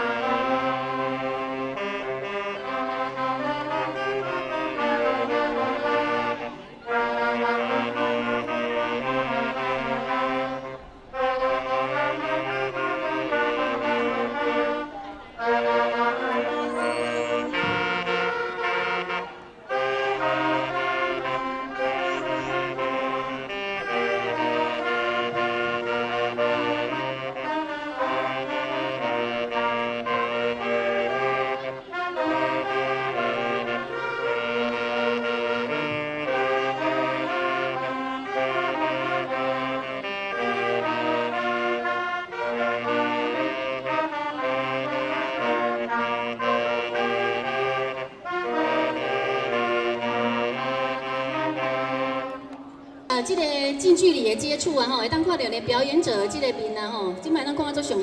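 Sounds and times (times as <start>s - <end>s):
saxophone ensemble playing: 0.0s - 58.0s.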